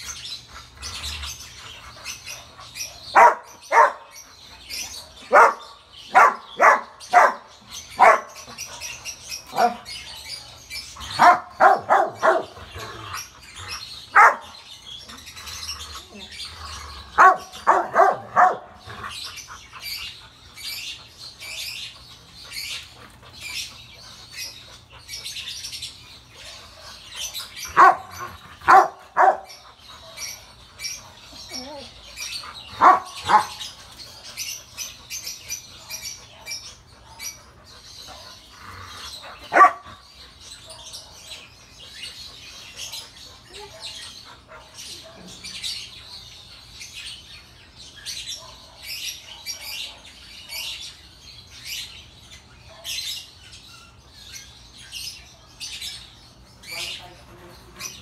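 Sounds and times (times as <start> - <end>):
birds chirping: 0.0 - 58.0
dogs barking: 1.7 - 21.9, 22.6 - 46.5, 48.1 - 51.0, 52.6 - 53.4.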